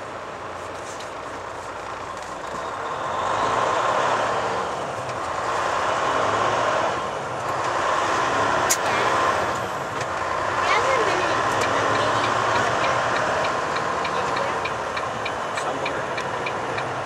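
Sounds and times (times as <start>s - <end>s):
road noise: 0.0s - 17.0s
truck diesel engine: 0.0s - 17.0s.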